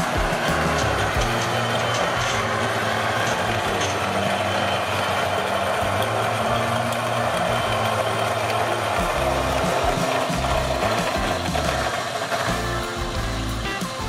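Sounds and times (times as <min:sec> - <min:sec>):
coffee grinder motor humming: 0:00.0 - 0:14.0.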